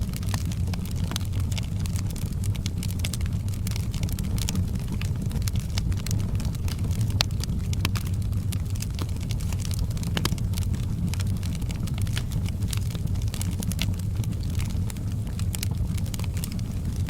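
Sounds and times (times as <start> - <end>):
fire low rumble: 0.0 - 17.0
wood fire crackling and popping: 0.0 - 17.0.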